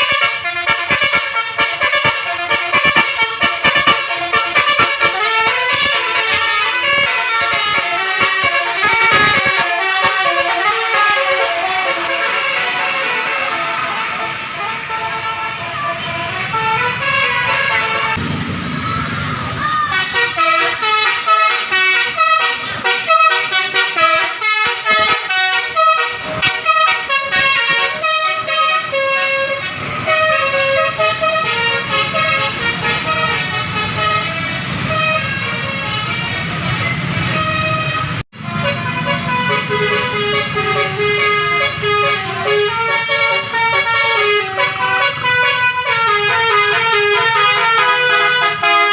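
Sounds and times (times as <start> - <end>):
multi-tone bus air horn melody: 0.0 - 18.2, 19.9 - 48.9.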